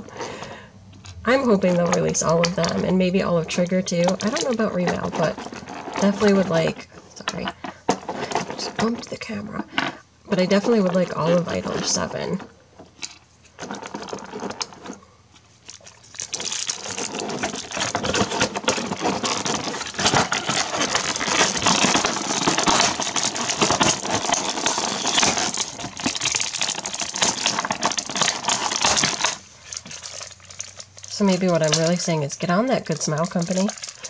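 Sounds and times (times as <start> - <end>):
plastic packaging crinkling: 1.4 - 9.1, 10.6 - 34.0.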